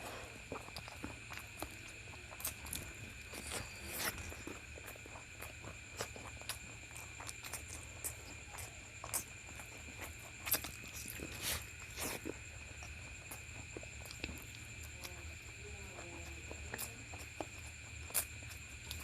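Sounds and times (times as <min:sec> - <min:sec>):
chewing with wet mouth clicks: 0:00.0 - 0:19.0.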